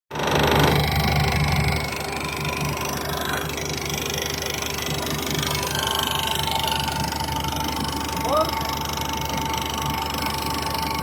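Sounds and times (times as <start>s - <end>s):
engine low drone: 0.1s - 11.0s
hydraulic pump whine: 0.1s - 11.0s.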